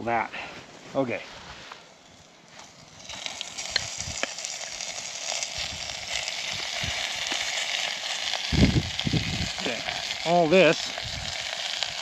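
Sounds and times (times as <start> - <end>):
steak sizzling in butter: 2.0 - 12.0.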